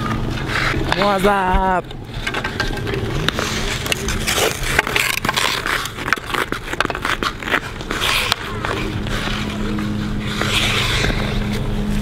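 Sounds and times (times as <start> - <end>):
skate blades scraping ice: 0.0 - 1.5, 2.1 - 12.0
hockey sticks clacking: 0.0 - 12.0.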